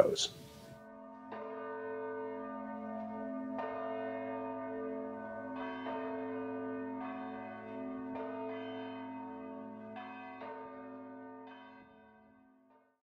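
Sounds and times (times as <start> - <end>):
church bells ringing: 0.0 - 12.8.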